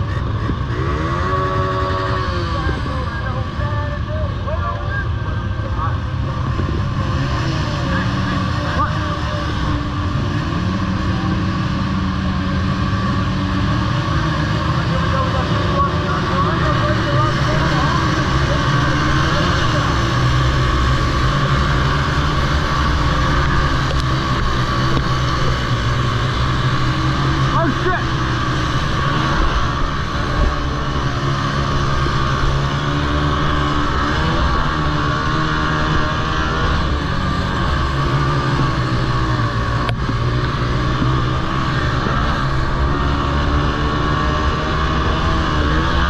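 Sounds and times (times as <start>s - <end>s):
small quad engines droning: 0.0s - 46.0s.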